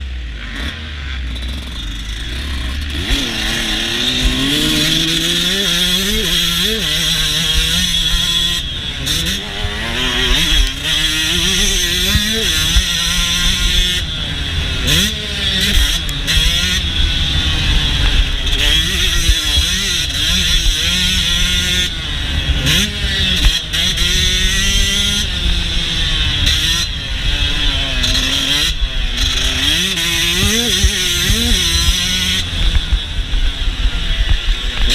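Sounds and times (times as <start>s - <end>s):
motocross engine revving: 0.0s - 34.9s.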